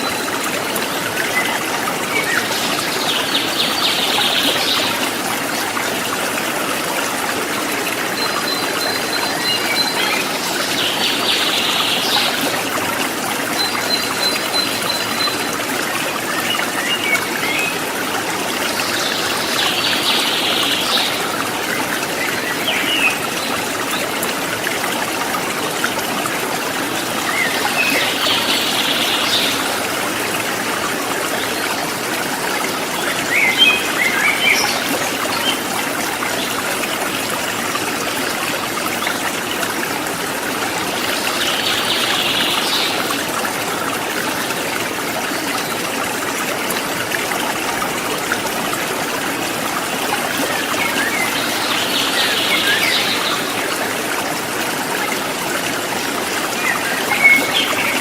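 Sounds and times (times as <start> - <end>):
river flowing over stones: 0.0 - 58.0.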